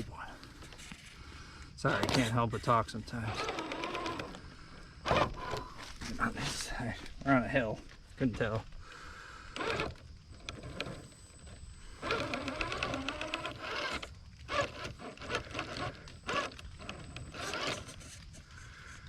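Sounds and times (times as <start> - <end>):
tires crunching over dirt: 0.0 - 19.0
toy car electric motor whining: 0.6 - 6.2, 8.9 - 19.0.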